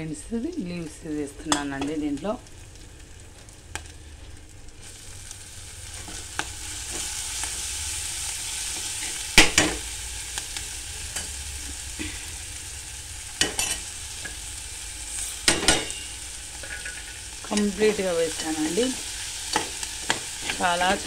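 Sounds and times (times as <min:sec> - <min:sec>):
hot oil sizzling: 0:00.0 - 0:21.0.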